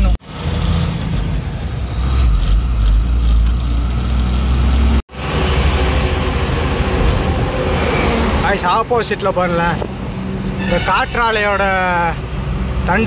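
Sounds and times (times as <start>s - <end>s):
diesel engine drone: 0.0s - 13.0s
road noise: 0.0s - 13.0s.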